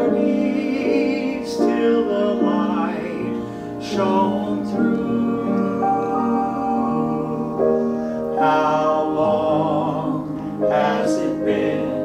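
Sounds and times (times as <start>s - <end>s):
man singing gospel: 0.0s - 12.0s
piano accompaniment: 0.0s - 12.0s.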